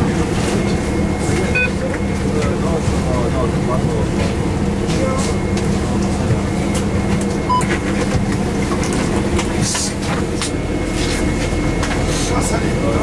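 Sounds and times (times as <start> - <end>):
bus engine and road drone: 0.0 - 13.0.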